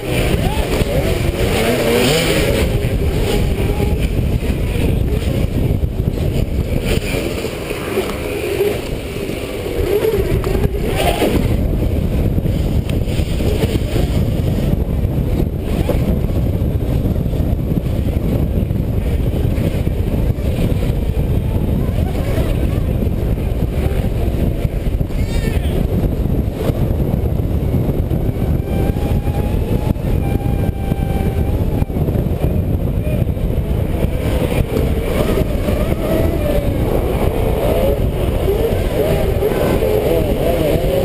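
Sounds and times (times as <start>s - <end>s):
electric dirt bike whine: 0.0s - 41.0s
rush of wind and ground noise: 0.0s - 41.0s.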